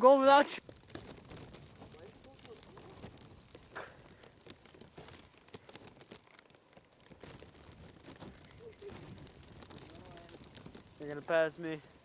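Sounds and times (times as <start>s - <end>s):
snow crunching: 0.0s - 12.0s.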